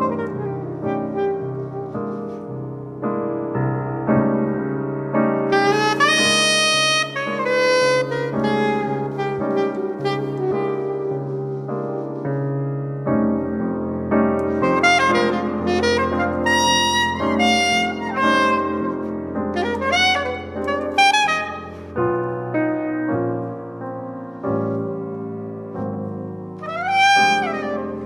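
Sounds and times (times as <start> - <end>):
jazzy video game music: 0.0 - 3.5, 5.2 - 28.0.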